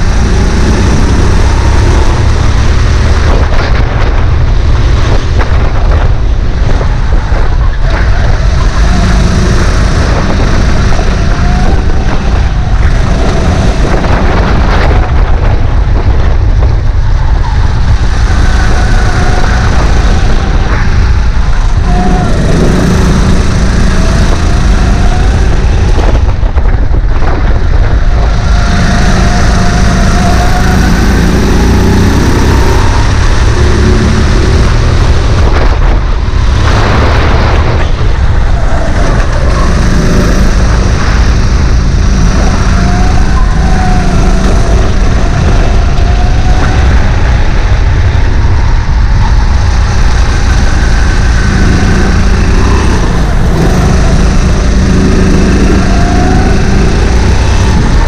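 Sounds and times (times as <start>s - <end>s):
kart engine running hard: 0.0s - 58.0s
wind rumble on microphone: 0.0s - 58.0s.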